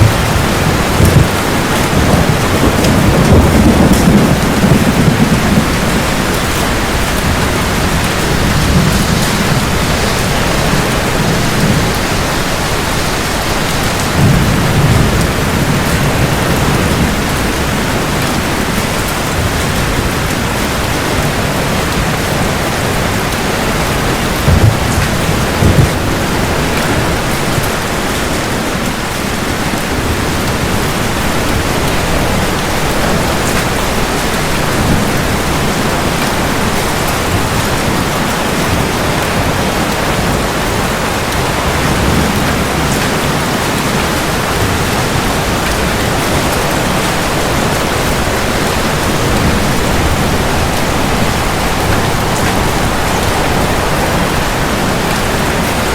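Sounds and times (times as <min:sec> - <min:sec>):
heavy rain: 0:00.0 - 0:55.9
loud thunder claps: 0:00.0 - 0:55.9
thunder rumbling: 0:00.0 - 0:55.9.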